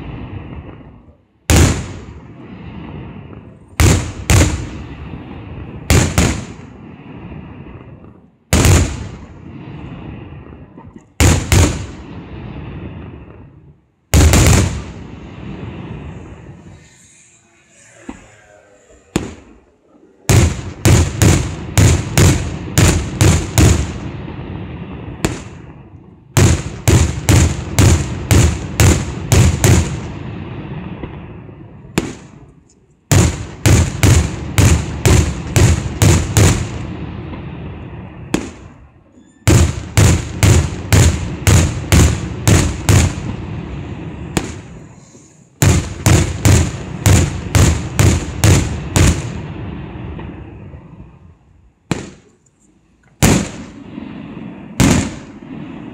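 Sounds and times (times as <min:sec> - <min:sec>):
fireworks bangs: 0:00.0 - 0:55.9.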